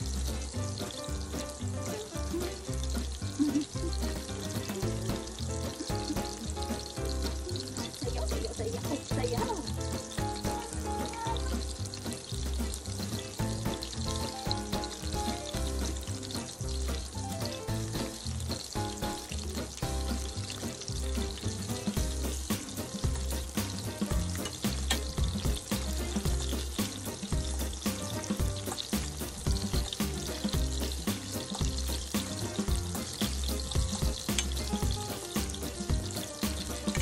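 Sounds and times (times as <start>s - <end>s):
music with bass beat: 0.0s - 37.0s
shrimp deep-frying in oil: 0.0s - 37.0s.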